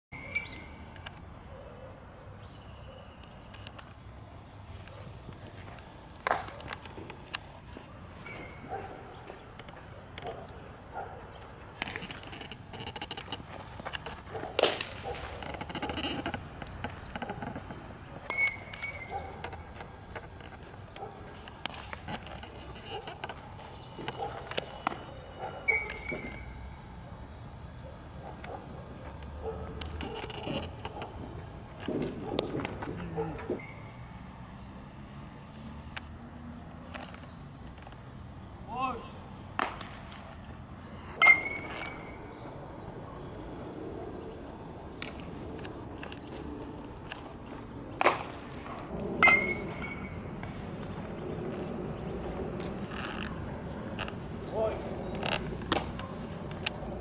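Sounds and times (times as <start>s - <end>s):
open-air background noise: 0.1s - 57.0s.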